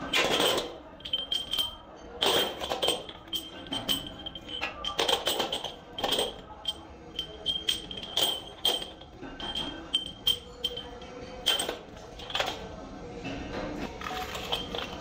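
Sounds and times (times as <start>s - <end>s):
metal pins dropping into metal pan: 0.0s - 12.6s.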